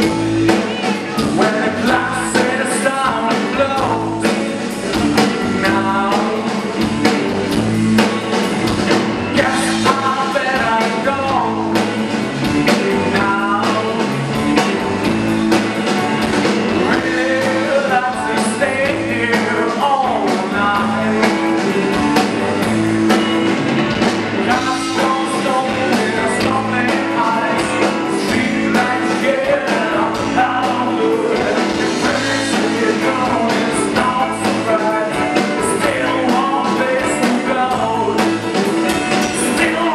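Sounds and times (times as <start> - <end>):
man singing lead vocal: 0.0 - 8.3, 9.2 - 14.9, 16.7 - 22.8, 24.3 - 39.9
drum kit: 0.0 - 39.9
electric guitar: 0.0 - 39.9.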